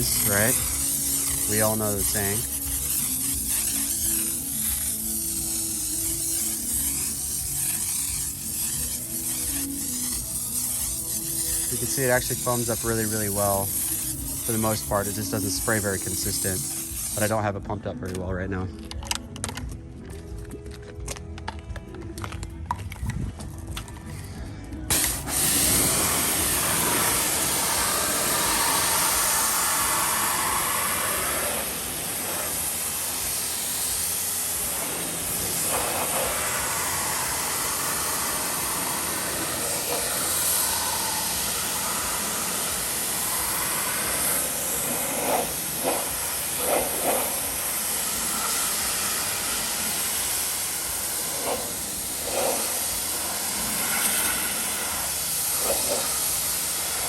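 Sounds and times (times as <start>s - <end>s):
hissing liquid spray: 0.0s - 17.5s, 24.9s - 57.0s.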